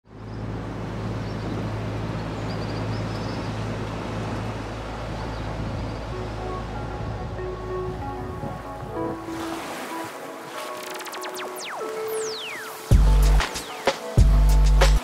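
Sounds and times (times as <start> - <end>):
boat engine droning: 0.0 - 13.6
water washing along hull: 0.0 - 15.0.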